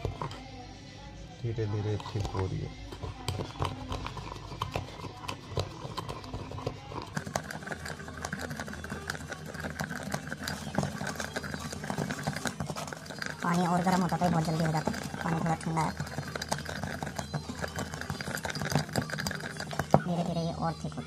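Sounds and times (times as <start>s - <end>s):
spoon tapping against glass: 3.0s - 20.2s.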